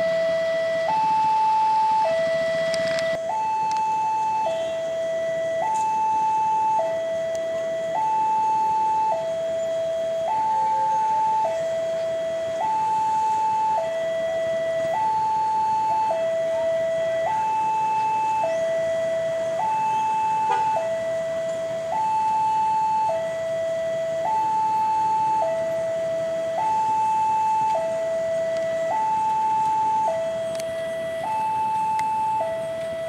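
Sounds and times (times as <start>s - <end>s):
level crossing two-tone alarm: 0.0s - 33.0s.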